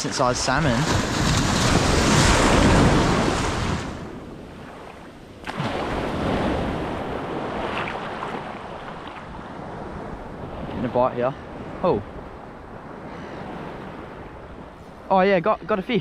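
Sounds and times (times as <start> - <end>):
small waves breaking in surf: 0.0 - 16.0.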